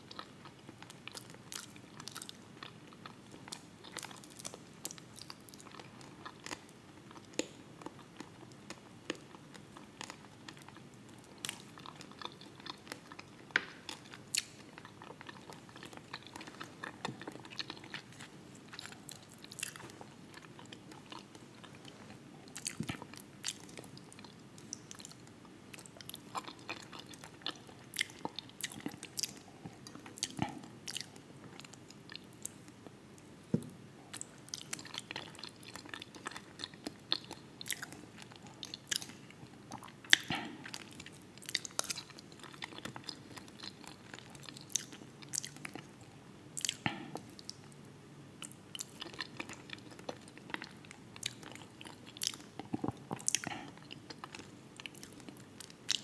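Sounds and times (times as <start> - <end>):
chewing: 0.1 - 32.8, 33.6 - 47.7, 48.4 - 56.0.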